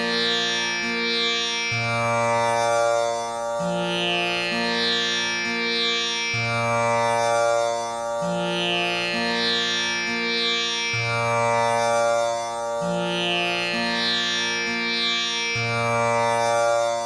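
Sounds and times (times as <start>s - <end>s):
tanpura drone: 0.0s - 17.0s.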